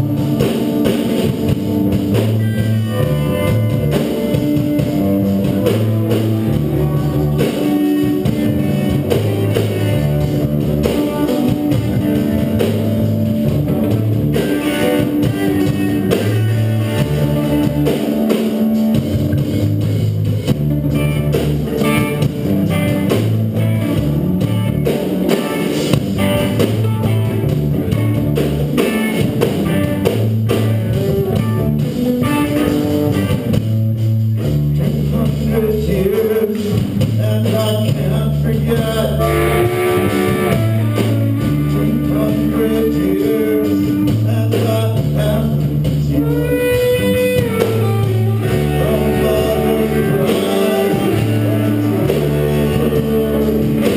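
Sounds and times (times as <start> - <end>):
bass line: 0.0 - 53.9
drum kit: 0.0 - 53.9
electric guitars: 0.0 - 53.9.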